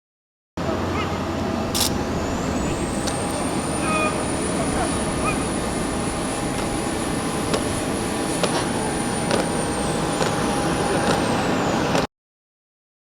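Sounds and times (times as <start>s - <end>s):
jet engines whining down: 0.6s - 12.1s.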